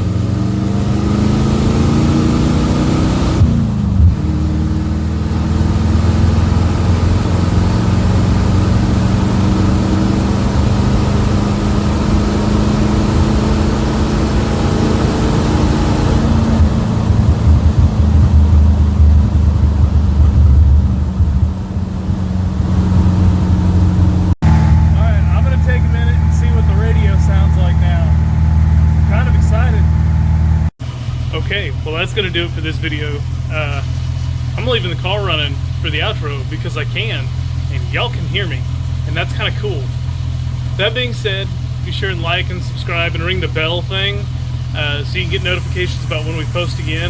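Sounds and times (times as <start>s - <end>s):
car engine revving and idling: 0.0s - 47.0s.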